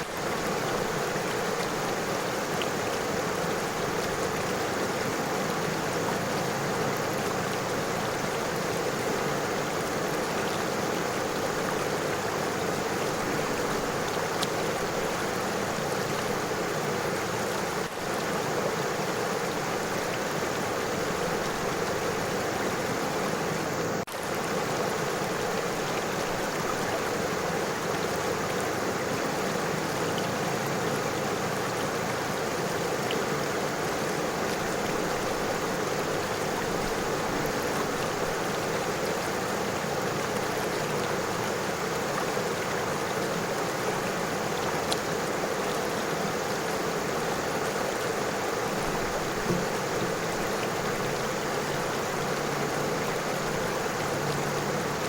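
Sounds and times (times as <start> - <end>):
river flowing over stones: 0.0 - 55.0.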